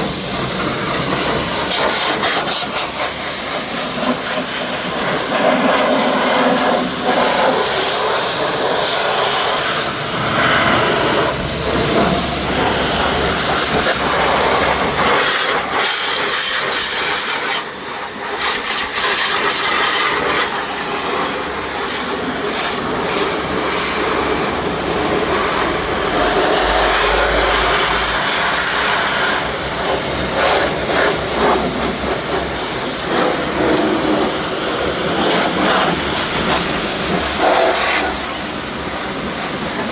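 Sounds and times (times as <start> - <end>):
pressure washer spray on car: 0.0 - 39.8.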